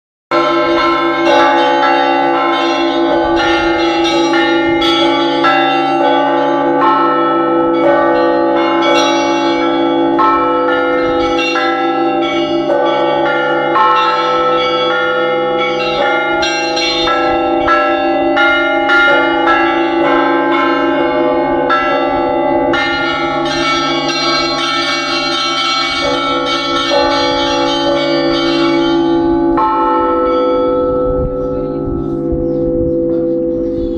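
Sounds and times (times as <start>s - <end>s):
low bells humming: 0.3s - 33.9s.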